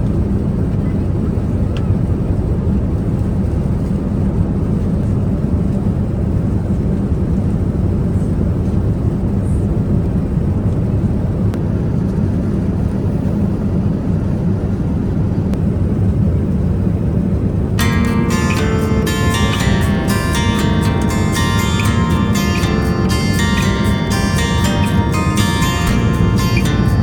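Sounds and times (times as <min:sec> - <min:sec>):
aircraft cabin engine rumble: 0:00.0 - 0:27.0.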